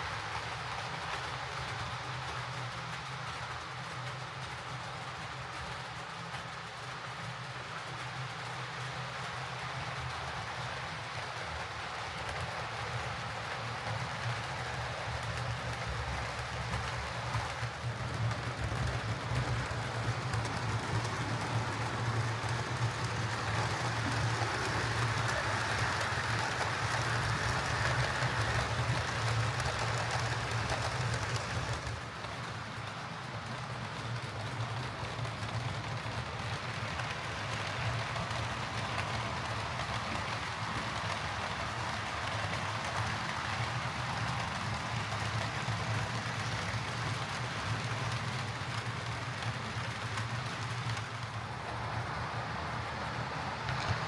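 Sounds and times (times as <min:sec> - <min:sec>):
faint rail clicks: 0:00.0 - 0:54.0
model locomotive running on track: 0:00.0 - 0:54.0.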